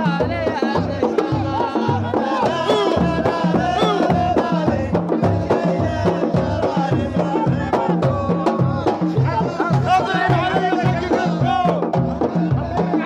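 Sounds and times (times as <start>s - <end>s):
drums beating steady rhythm: 0.0s - 13.0s
voices singing: 0.0s - 13.0s.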